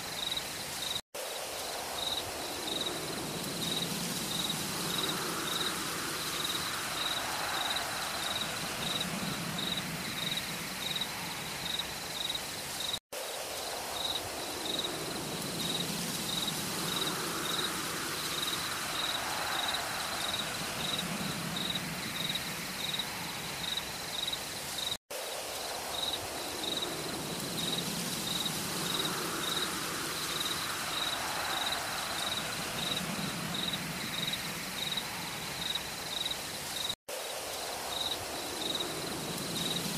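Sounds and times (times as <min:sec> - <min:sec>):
soft forest background: 0:00.0 - 0:39.9
insect chirping in high pulses: 0:01.6 - 0:13.0, 0:13.6 - 0:25.0, 0:25.6 - 0:37.0.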